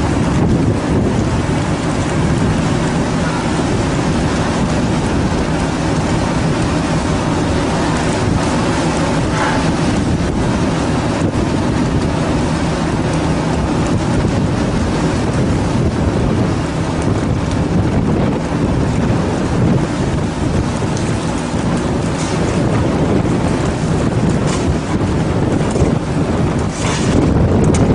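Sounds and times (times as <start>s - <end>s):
boat engine running: 0.0s - 27.9s
sea wash: 0.0s - 27.9s
wind buffeting microphone: 0.0s - 27.9s.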